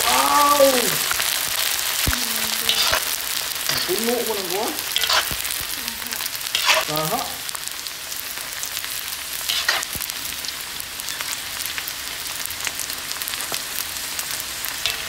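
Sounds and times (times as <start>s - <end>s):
fat sizzling with crackling pops: 0.0s - 15.0s.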